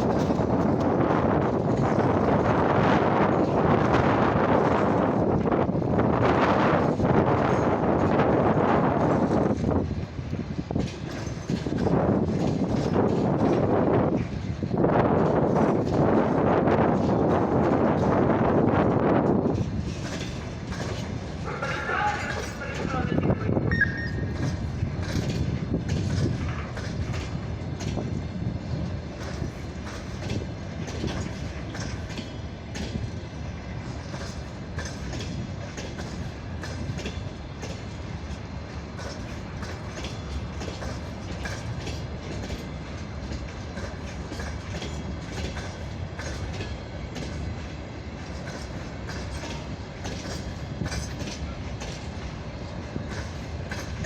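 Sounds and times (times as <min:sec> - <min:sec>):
train rumble: 0:00.0 - 0:54.0
train wheels clacking: 0:00.0 - 0:54.0.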